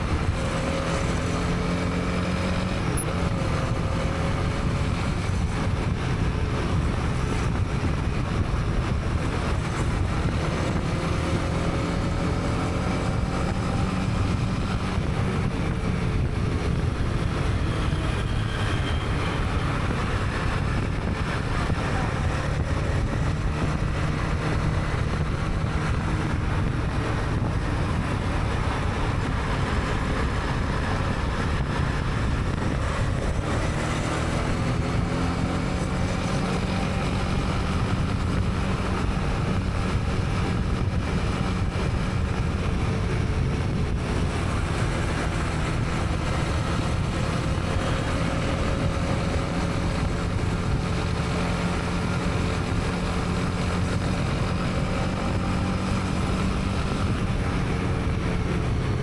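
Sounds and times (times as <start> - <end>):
low road noise rumble: 0.0 - 59.0
motorcycle engine running: 0.0 - 59.0.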